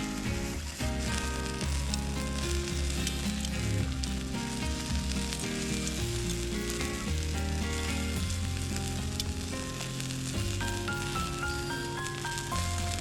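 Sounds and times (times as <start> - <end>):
food sizzling while frying: 0.0 - 13.0.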